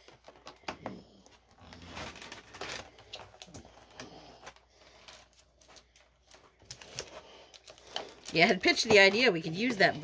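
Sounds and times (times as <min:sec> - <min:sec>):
plastic packaging crinkling: 0:01.5 - 0:10.0.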